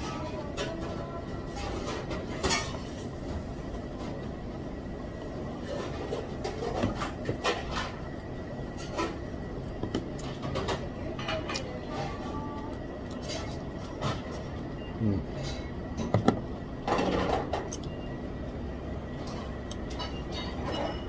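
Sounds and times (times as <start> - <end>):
restaurant background noise: 0.0 - 21.0.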